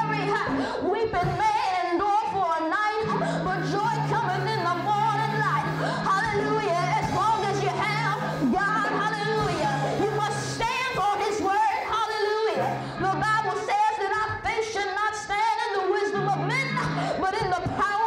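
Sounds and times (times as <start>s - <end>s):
voices singing gospel: 0.0s - 17.7s.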